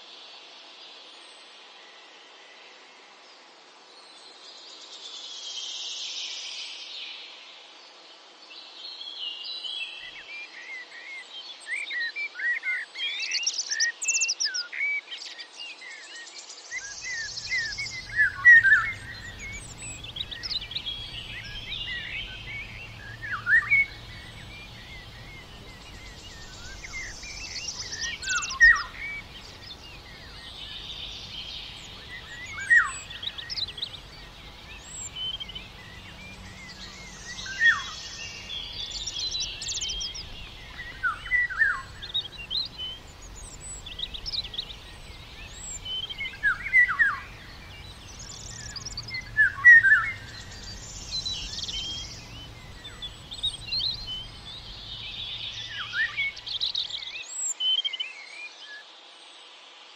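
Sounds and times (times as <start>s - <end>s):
faint outdoor background: 0.0s - 59.9s
songbirds singing: 8.6s - 59.4s.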